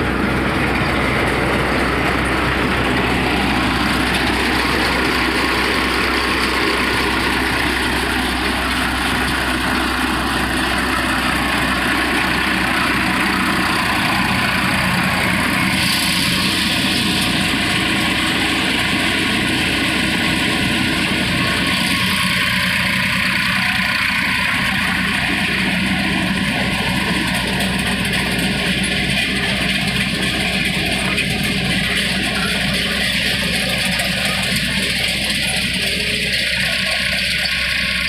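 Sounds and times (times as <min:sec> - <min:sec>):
tractor engine and thresher running: 0:00.0 - 0:38.0.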